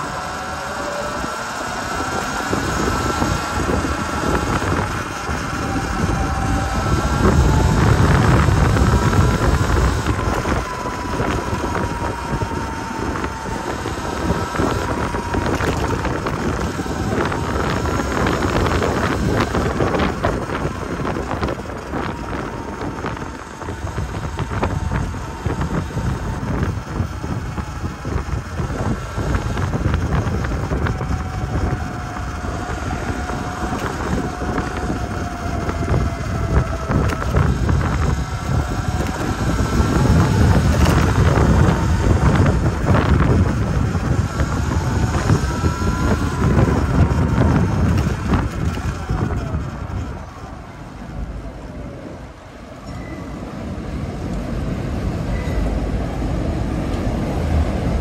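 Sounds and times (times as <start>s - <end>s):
electric motor whining: 0.0s - 52.4s
wind on microphone: 0.0s - 58.0s.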